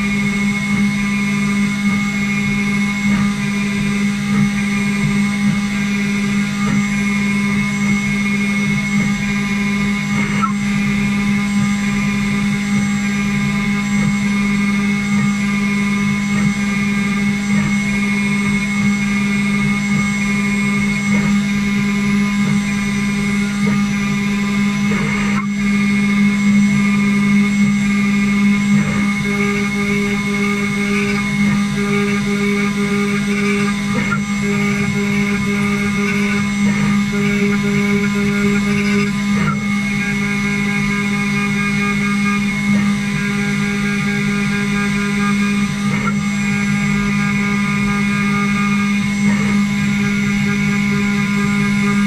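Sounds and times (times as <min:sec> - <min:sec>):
router motor hum and whine: 0:00.0 - 0:52.0.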